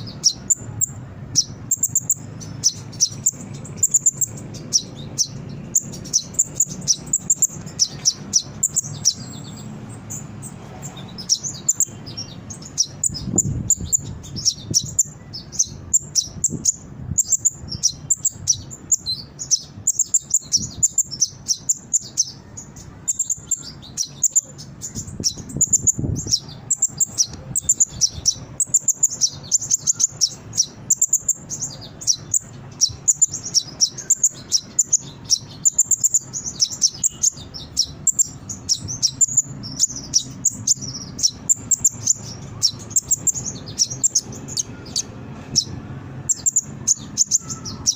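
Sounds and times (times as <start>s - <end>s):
sunbird chirping and twittering: 0.0s - 47.9s.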